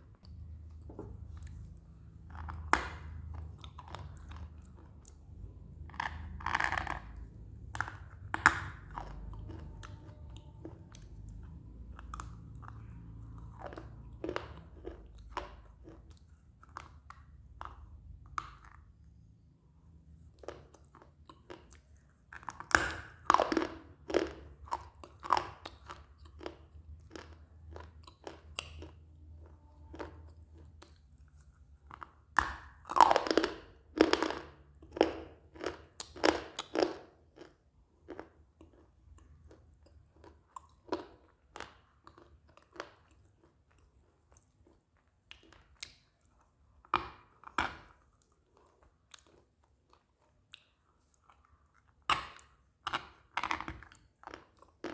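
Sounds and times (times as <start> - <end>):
crunchy chewing: 0.1 - 18.9, 20.2 - 54.9.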